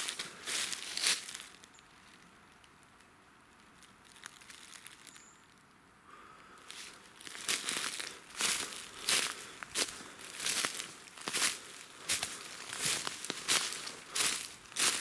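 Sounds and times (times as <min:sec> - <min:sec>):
footsteps crunching dry leaves: 0:00.0 - 0:02.2, 0:03.6 - 0:05.2, 0:06.7 - 0:15.0
faint leaf rustles: 0:00.0 - 0:15.0.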